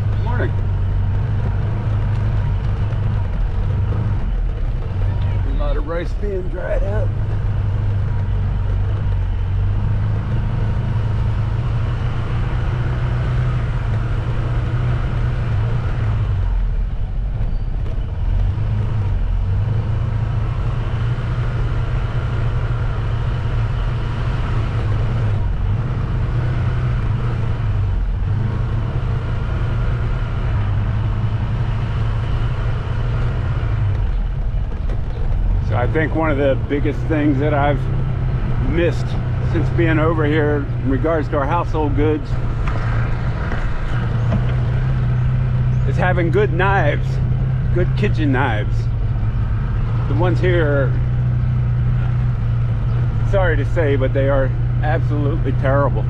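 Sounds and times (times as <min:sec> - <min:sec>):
road and wind noise: 0:00.0 - 0:56.0
vehicle engine droning: 0:00.0 - 0:56.0.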